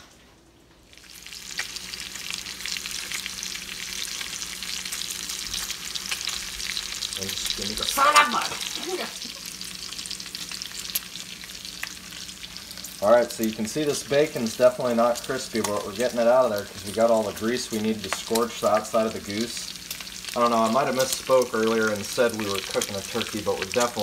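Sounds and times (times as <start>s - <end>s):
bacon sizzling in grease: 0.8s - 24.0s.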